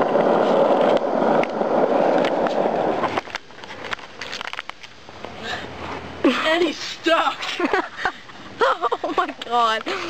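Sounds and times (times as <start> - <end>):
skateboard wheels rolling on asphalt: 0.0 - 10.0.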